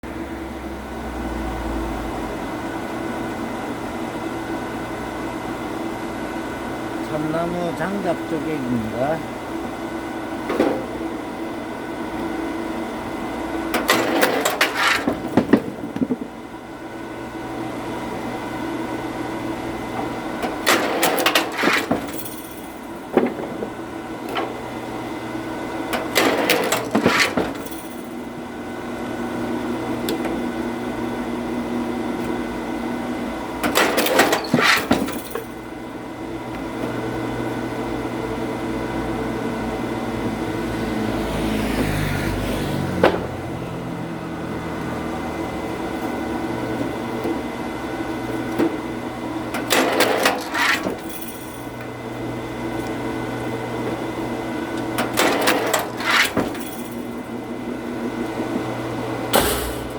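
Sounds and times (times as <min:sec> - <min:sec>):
engine humming: 0:00.0 - 0:33.9, 0:35.1 - 0:49.8.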